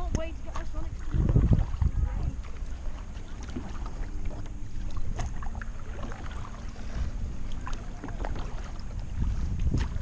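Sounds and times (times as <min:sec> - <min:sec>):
steady low rumble: 0:00.0 - 0:10.0
water splashes and drips: 0:00.0 - 0:10.0.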